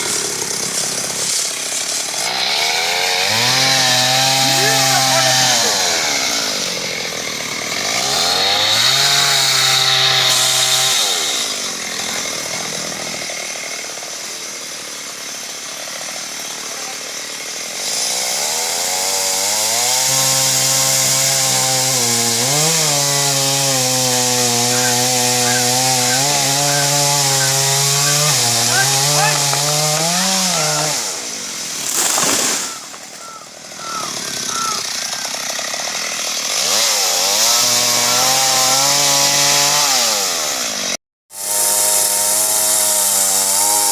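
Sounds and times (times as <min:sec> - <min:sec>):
chainsaw cutting tree: 0:00.0 - 0:43.9.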